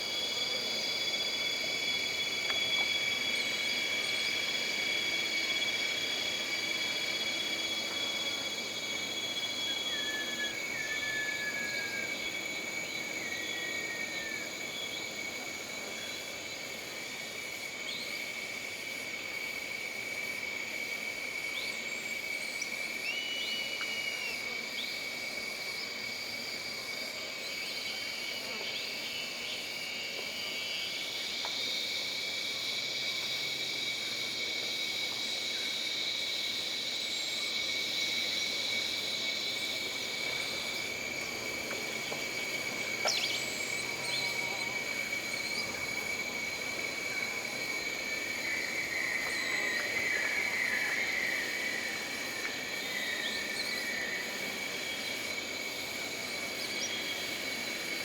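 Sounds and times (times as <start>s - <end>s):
high insect drone: 0.0s - 58.0s
higher insect chorus: 0.0s - 58.0s.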